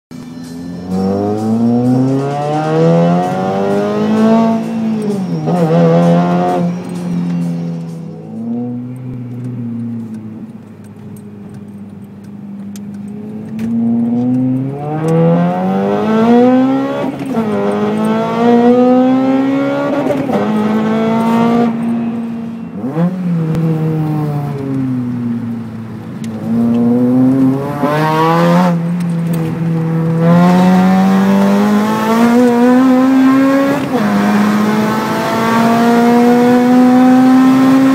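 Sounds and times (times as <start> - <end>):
car engine accelerating: 0.2 - 37.9.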